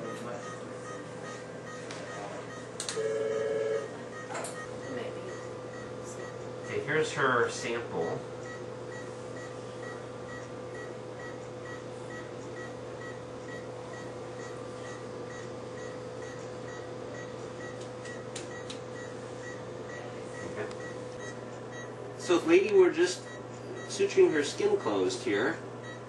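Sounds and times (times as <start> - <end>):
monitor beeping: 0.0 - 26.0
steady electrical hum: 0.0 - 26.0.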